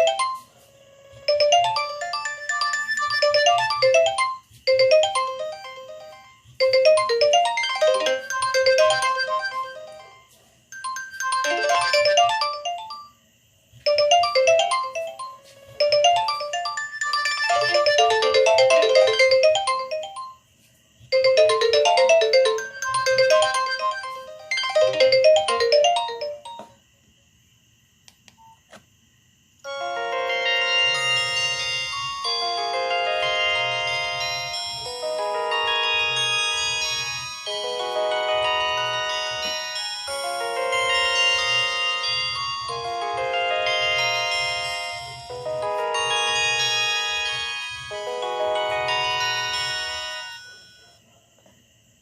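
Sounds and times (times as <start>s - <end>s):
phone ringtone melody: 0.0s - 0.5s, 1.2s - 13.2s, 13.9s - 20.5s, 21.1s - 26.8s, 29.7s - 51.0s.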